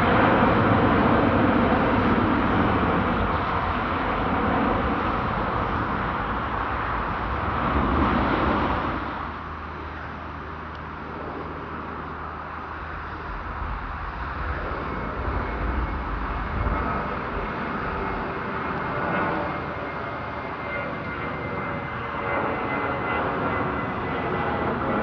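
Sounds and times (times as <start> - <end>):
jet airliner engine roar: 0.0 - 25.0.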